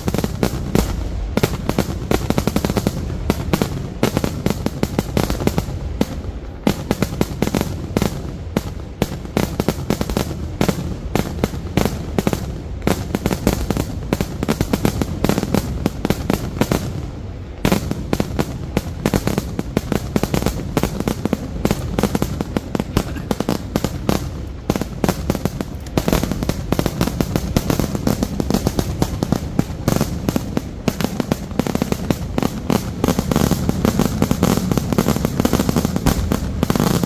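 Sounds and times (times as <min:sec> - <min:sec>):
fireworks bangs and cracks: 0:00.0 - 0:37.0.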